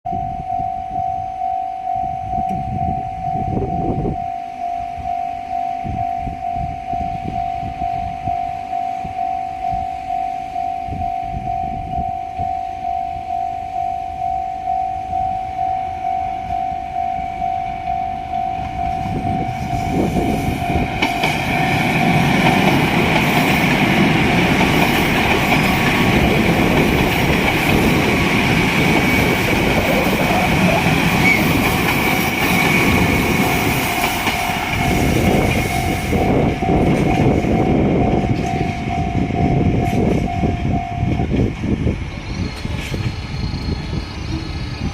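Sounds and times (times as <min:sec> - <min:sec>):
level-crossing alarm ringing: 0:00.1 - 0:42.4
diesel train rumbling past: 0:06.7 - 0:44.9.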